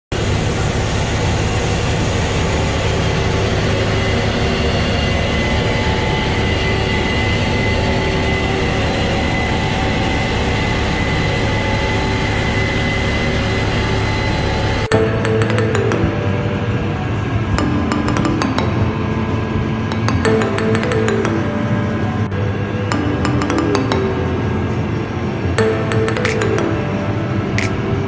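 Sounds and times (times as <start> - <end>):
harvest machinery drone and whine: 0.1 - 28.0.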